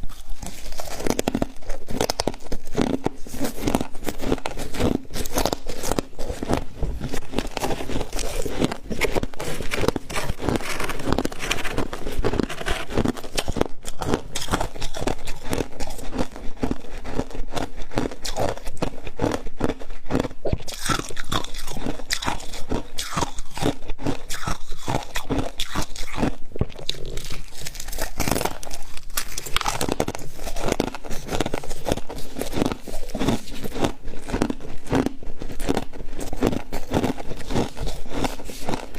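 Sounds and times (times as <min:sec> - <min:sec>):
chewing crunchy frost: 0:00.0 - 0:38.9.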